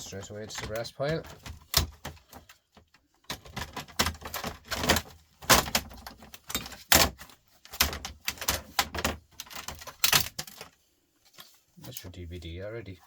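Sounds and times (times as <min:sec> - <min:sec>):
plastic and metal parts clattering: 0:00.0 - 0:12.1.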